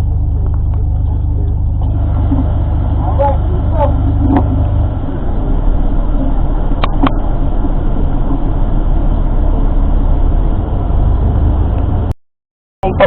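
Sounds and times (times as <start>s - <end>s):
bus engine and road rumble: 0.0s - 12.2s.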